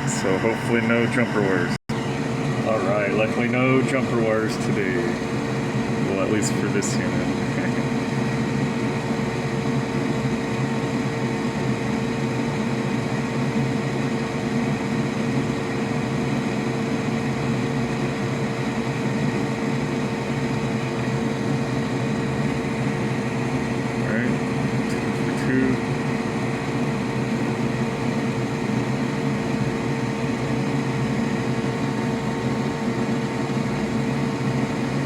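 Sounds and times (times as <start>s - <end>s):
fan whirring hum: 0.0s - 35.0s.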